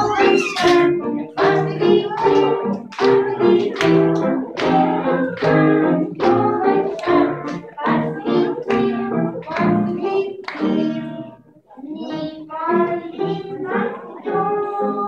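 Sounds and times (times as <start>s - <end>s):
children's song with steady beat: 0.0s - 15.0s.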